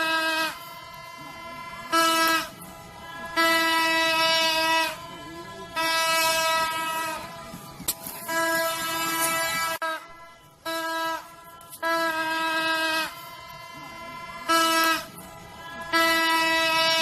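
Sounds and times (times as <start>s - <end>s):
toy trumpet horn blasts: 0.0s - 2.7s, 3.3s - 5.1s, 5.7s - 17.0s.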